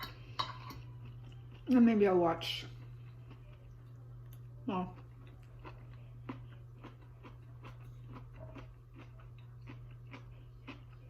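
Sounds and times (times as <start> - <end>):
person chewing food: 0.0 - 1.8, 2.6 - 11.0
steady low hum: 0.0 - 11.0.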